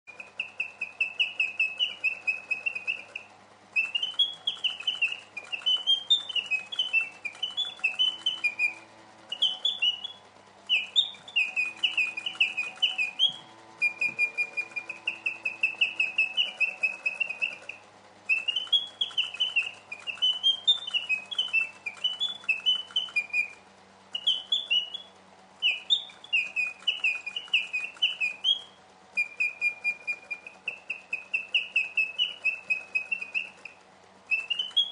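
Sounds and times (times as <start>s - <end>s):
mechanical bird whistles chirping: 0.1s - 34.9s.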